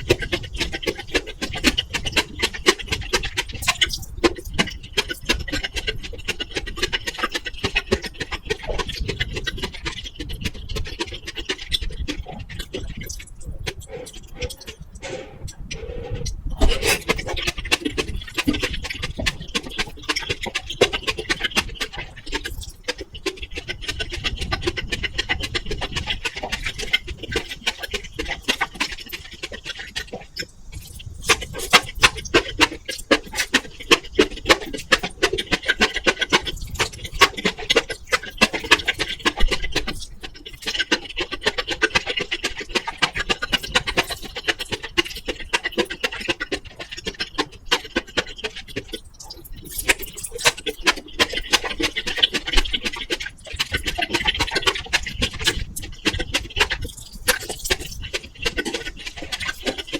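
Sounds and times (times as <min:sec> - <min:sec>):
wet clicky chewing: 0:00.0 - 0:59.9.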